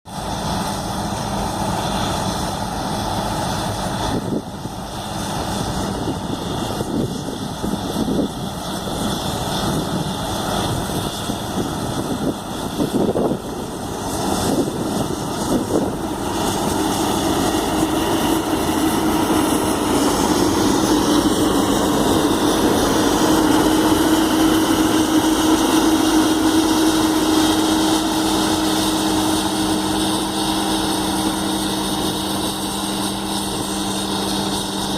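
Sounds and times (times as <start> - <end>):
combine harvester drone: 0.1 - 34.9.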